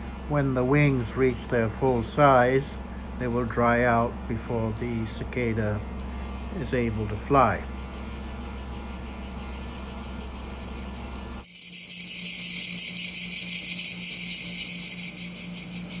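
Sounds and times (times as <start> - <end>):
cicadas pulsing buzz: 0.0 - 16.0.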